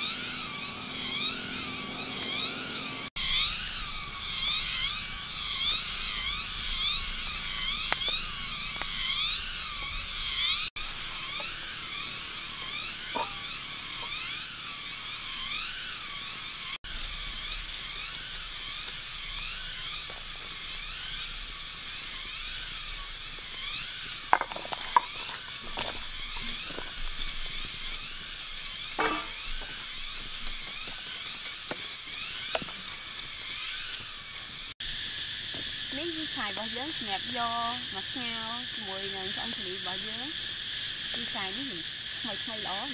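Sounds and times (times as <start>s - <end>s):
insect chorus hiss: 0.0s - 42.9s
campfire crackles: 3.2s - 15.5s, 16.9s - 40.3s.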